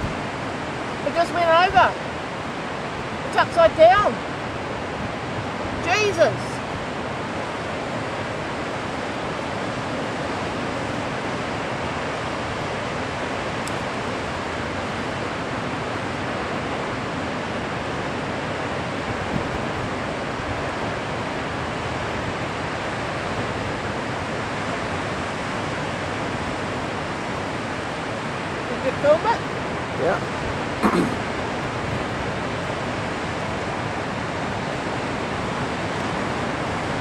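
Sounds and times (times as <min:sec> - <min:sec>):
breaking surf: 0:00.0 - 0:37.0
wind: 0:00.0 - 0:37.0.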